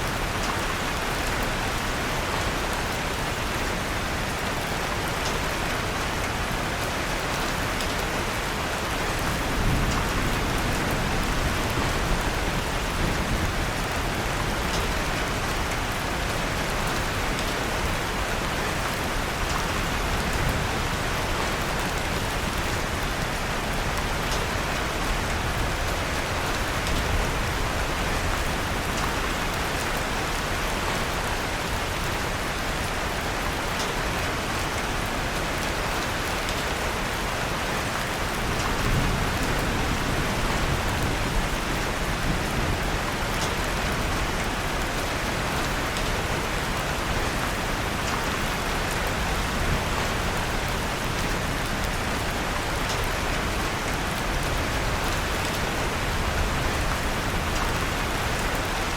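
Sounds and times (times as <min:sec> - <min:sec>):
rain pattering on a surface: 0:00.0 - 0:58.9.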